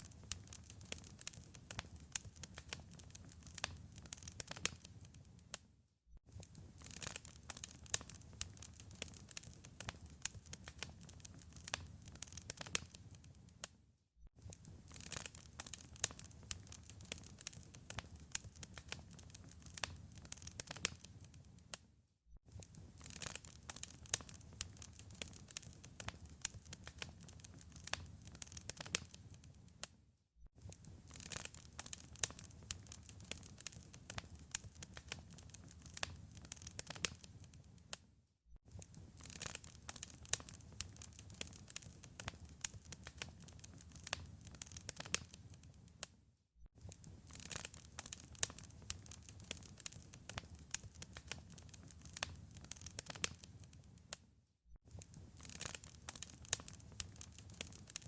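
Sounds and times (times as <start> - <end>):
wood fire crackling: 0.0 - 5.6, 6.3 - 13.7, 14.4 - 21.6, 22.5 - 29.9, 30.6 - 38.0, 38.7 - 46.1, 46.8 - 54.2, 54.9 - 58.0.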